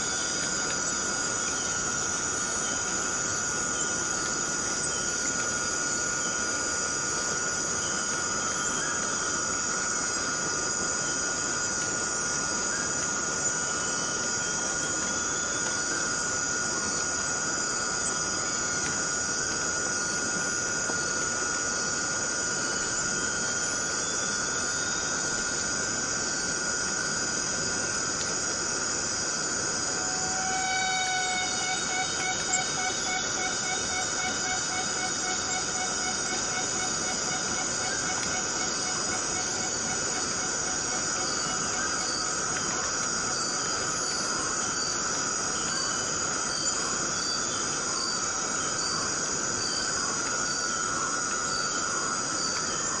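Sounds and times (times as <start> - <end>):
cicadas droning: 0.0 - 53.0
faint steady tone: 0.0 - 53.0
pulsing insect call: 0.0 - 53.0.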